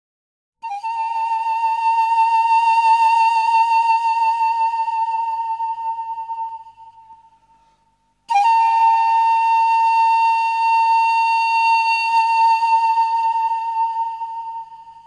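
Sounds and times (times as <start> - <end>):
long held flute note: 0.6 - 7.7, 8.3 - 15.0.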